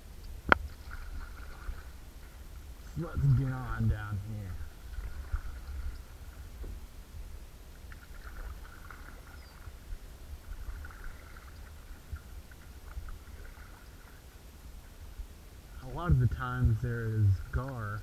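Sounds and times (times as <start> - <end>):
wind rumble on microphone: 0.0 - 18.0
kayak paddle dipping in water: 0.1 - 15.0, 17.4 - 18.0.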